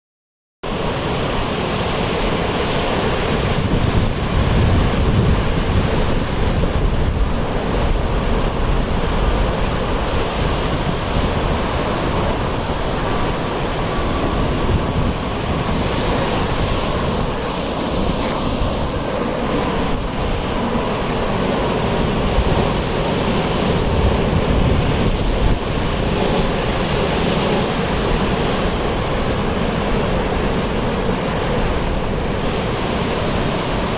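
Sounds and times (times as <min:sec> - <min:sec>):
sea surf washing onto beach: 0:00.6 - 0:33.9
wind buffeting microphone: 0:01.6 - 0:33.9.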